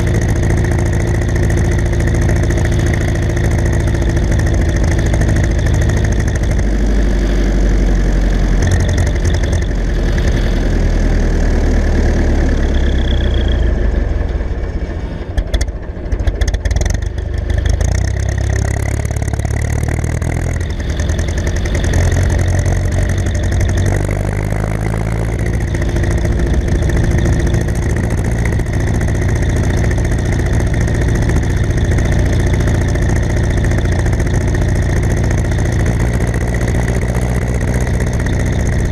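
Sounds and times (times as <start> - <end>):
engine knocks: 0.0 - 7.0, 7.8 - 38.9
tractor diesel engine running: 0.0 - 38.9.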